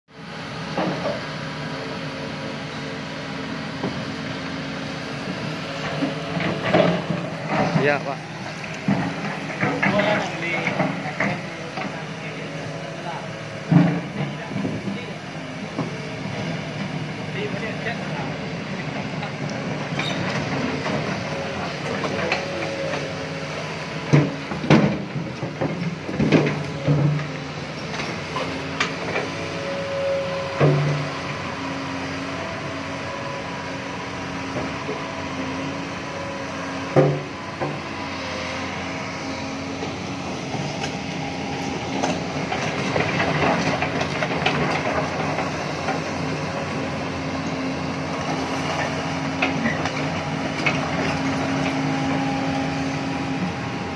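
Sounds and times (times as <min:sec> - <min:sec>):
diesel engine humming: 0:00.1 - 0:53.9.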